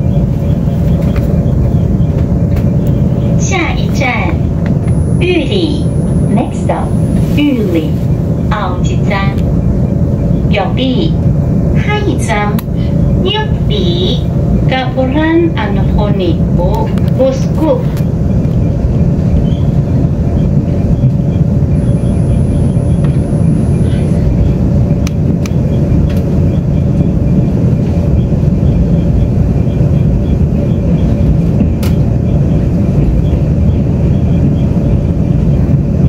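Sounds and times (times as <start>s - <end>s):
constant hum: 0.0s - 36.0s
train wheels rumbling on track: 0.0s - 36.0s.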